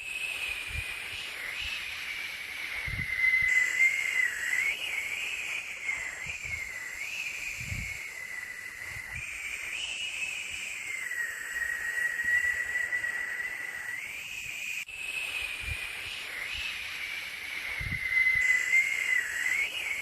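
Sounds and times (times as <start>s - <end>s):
wavering whistling tone: 0.0s - 20.0s
white-noise hiss: 0.0s - 20.0s.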